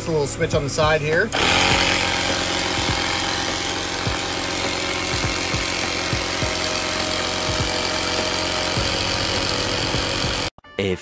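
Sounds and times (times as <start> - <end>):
portable tire inflator rattling: 1.3 - 10.5.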